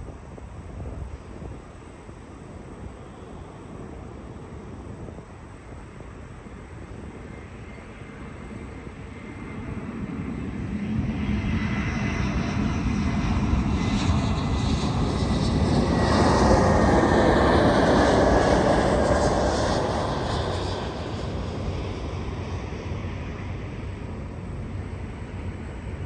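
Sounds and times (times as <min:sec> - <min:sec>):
aircraft engine passing by: 0:00.0 - 0:26.0.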